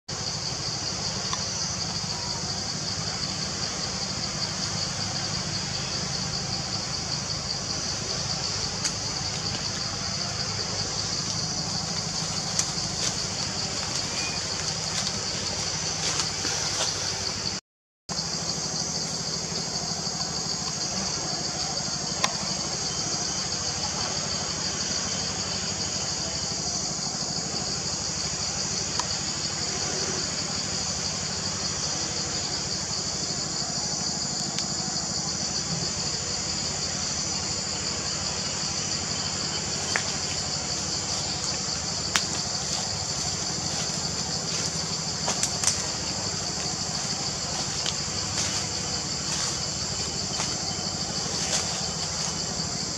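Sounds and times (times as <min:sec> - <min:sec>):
insects chorus: 0:00.1 - 0:52.9.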